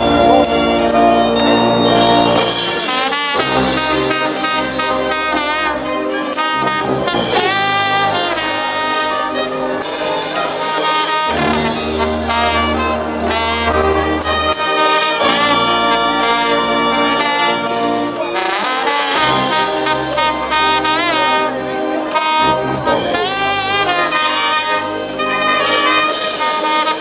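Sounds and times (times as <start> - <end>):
brass band playing dance music: 0.0 - 27.0.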